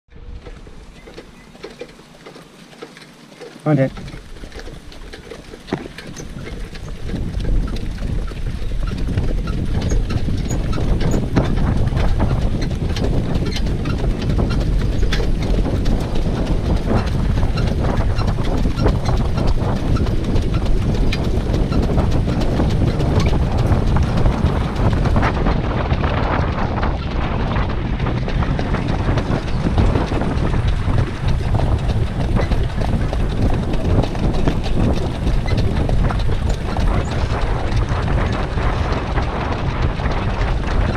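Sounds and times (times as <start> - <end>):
horse hooves on dirt: 0.1 - 40.9
wind rumble on microphone: 0.1 - 40.9.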